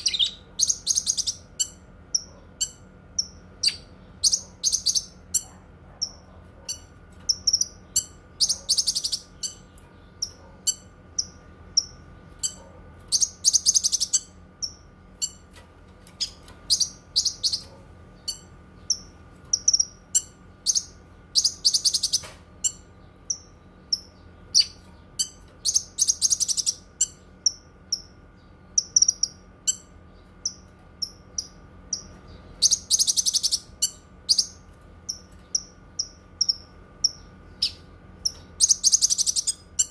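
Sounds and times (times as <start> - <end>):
songbird high chirps: 0.0 - 15.4, 16.2 - 39.9
buzzy rattling bird trill: 0.0 - 39.9.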